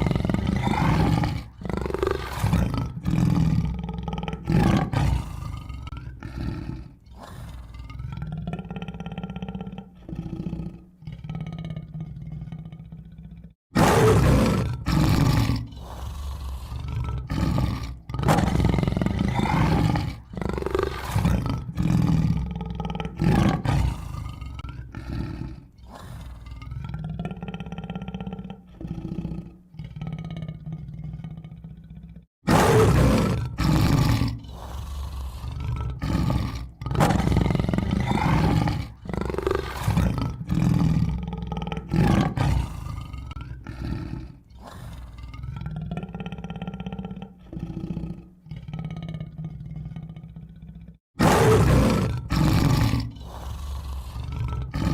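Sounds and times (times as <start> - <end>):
tiger roaring and growling: 0.0 - 54.9.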